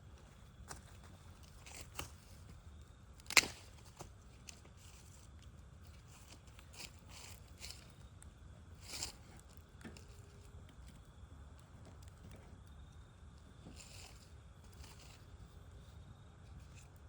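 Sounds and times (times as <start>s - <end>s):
campfire crackling and popping: 0.0s - 15.4s
low fire rumble: 0.0s - 17.0s.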